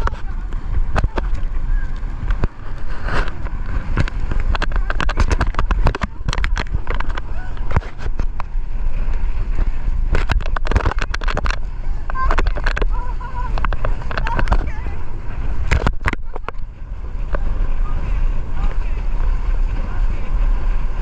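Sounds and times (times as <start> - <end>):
tube knocking and splashing on water: 0.0 - 21.0
wind buffeting microphone: 0.0 - 21.0.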